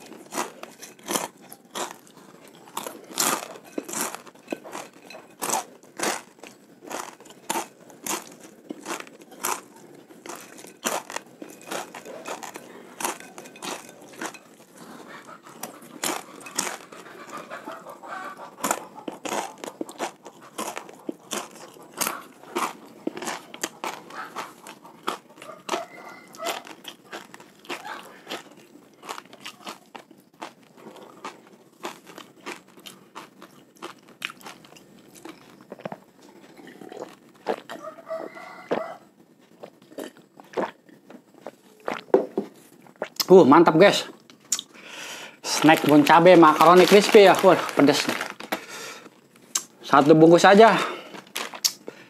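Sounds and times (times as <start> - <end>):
crunching crispy snack: 0.0 - 36.0, 45.4 - 52.0.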